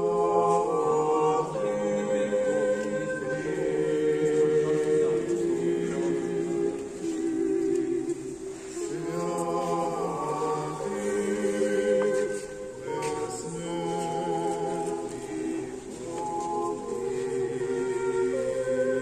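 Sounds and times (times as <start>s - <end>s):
choir singing a cappella: 0.0s - 19.0s.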